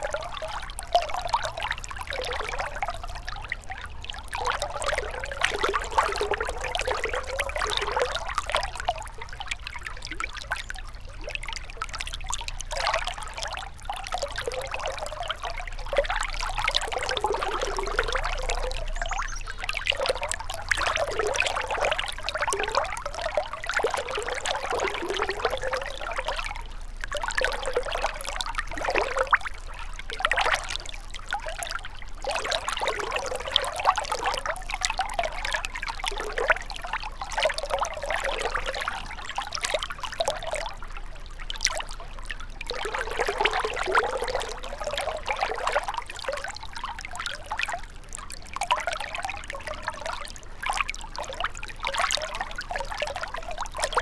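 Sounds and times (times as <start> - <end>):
shallow river water flowing: 0.0 - 54.0.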